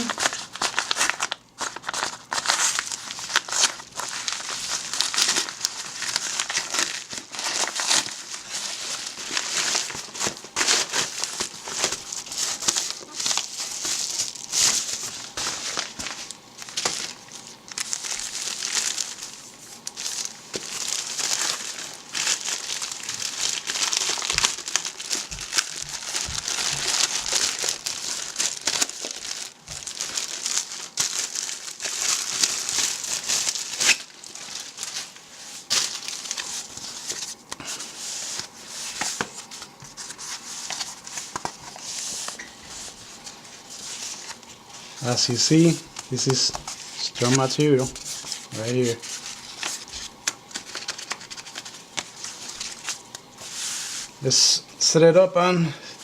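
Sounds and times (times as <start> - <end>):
plastic packaging crinkling: 0.0 - 54.4.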